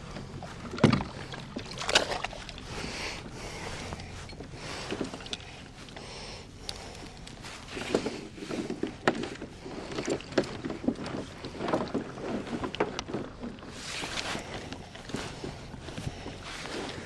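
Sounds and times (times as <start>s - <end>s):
knocks and rattling on plastic kayak: 0.0s - 6.0s, 6.7s - 17.0s.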